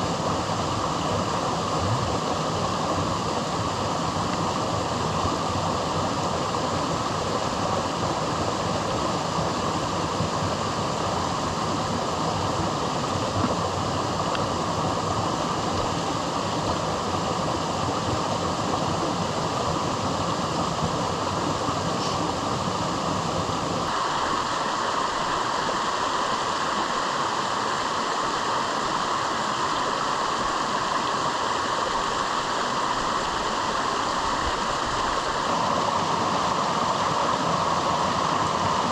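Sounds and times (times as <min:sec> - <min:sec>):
rain: 0:00.0 - 0:38.9.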